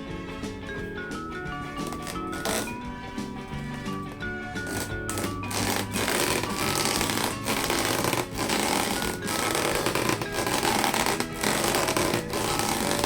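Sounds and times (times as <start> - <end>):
rubber balloons squeaking: 1.1 - 3.0, 3.8 - 13.0.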